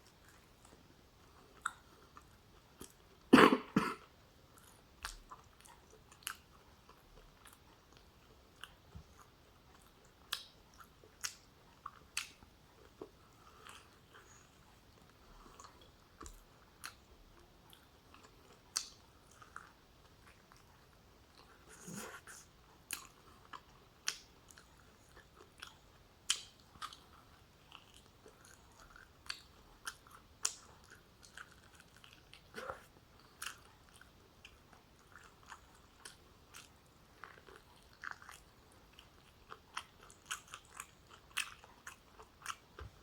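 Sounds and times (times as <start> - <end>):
person chewing food: 0.0 - 3.2, 4.0 - 43.0.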